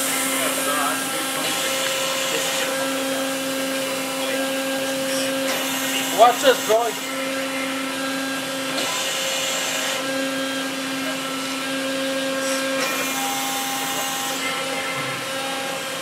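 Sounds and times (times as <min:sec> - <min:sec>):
hydraulic press hum and whine: 0:00.0 - 0:16.0.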